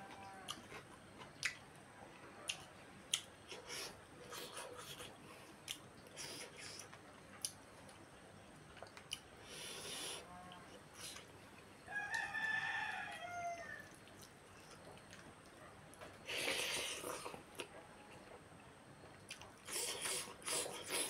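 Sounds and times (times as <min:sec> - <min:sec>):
soft wet chewing: 0:00.0 - 0:21.0.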